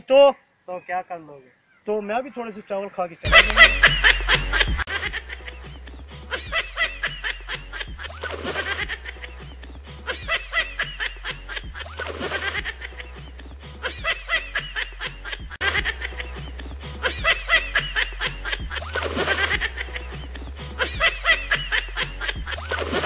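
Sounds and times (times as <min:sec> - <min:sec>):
high giggling laughter: 0:03.3 - 0:23.0.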